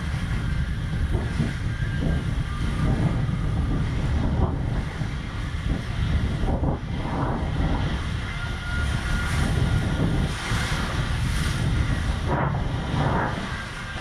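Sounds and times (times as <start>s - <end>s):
inner tube rumbling on slide: 0.0s - 8.3s, 8.9s - 14.0s
rushing water: 0.0s - 14.0s
wind buffeting microphone: 0.0s - 14.0s.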